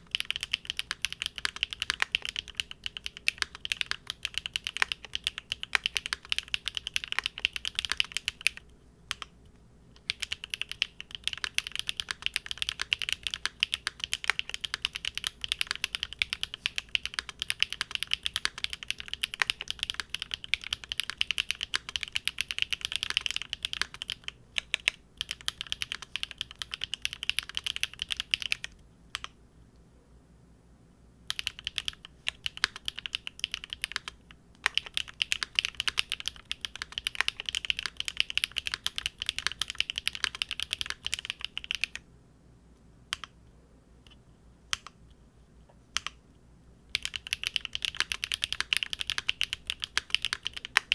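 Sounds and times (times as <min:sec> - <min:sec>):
mechanical keyboard typing clicks: 0:00.0 - 0:09.3, 0:10.0 - 0:29.4, 0:31.3 - 0:42.0, 0:46.9 - 0:50.9.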